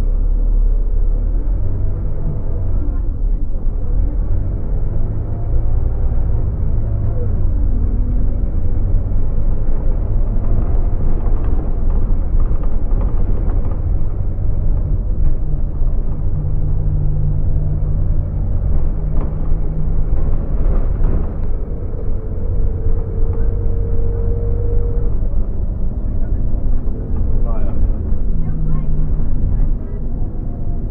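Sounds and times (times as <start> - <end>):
bus diesel engine rumble: 0.0 - 30.9.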